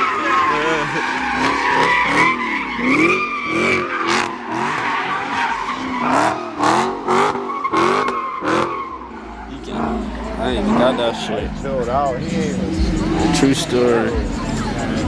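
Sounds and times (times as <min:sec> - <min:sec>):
car engine revving: 0:00.0 - 0:15.0
tires squealing: 0:00.0 - 0:15.0.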